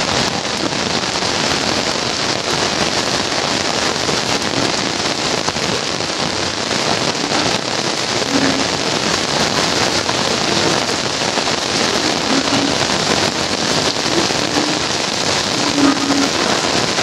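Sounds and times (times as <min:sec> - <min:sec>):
heavy rain on wet road: 0:00.0 - 0:17.0.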